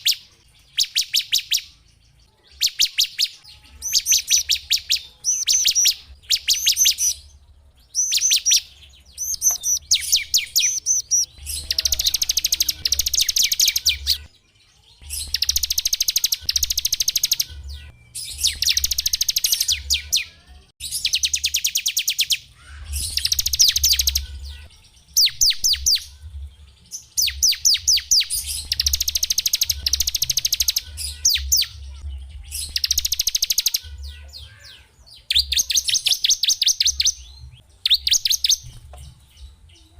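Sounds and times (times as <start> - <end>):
songbird singing fast trills: 0.0 - 26.2, 27.0 - 38.8.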